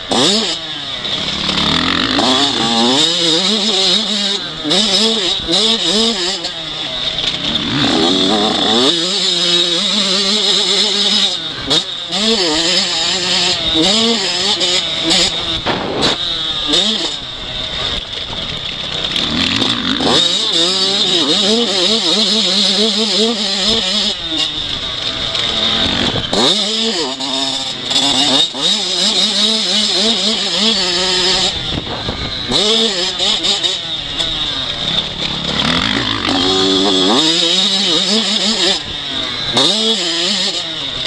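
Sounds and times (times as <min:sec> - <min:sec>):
two-stroke motorcycle engine revving: 0:00.0 - 0:41.0.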